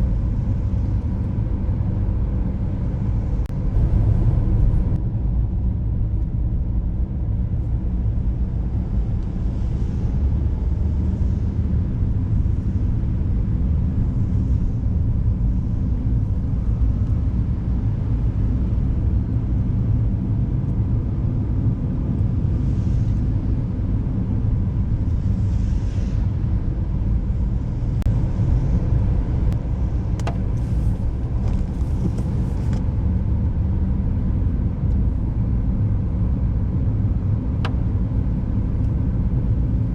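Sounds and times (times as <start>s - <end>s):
car engine rumble: 0.0s - 39.9s
tyre road noise: 0.0s - 39.9s.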